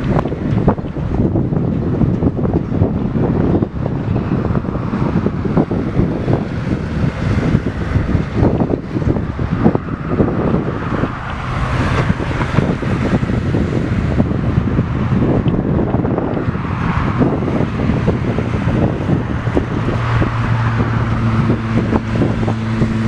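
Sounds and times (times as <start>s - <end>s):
freight train rumbling past: 0.0s - 23.0s
wind buffeting microphone: 0.0s - 23.0s.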